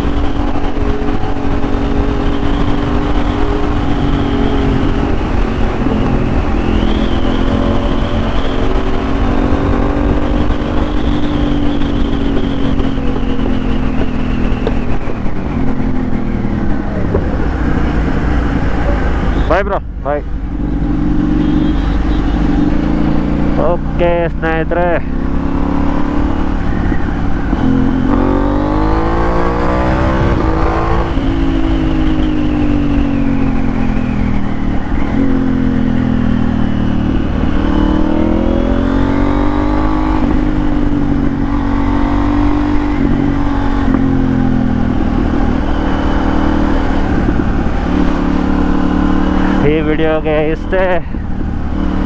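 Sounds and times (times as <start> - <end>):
motorcycle engine revving: 0.0 - 52.0
wind on microphone: 0.0 - 52.0.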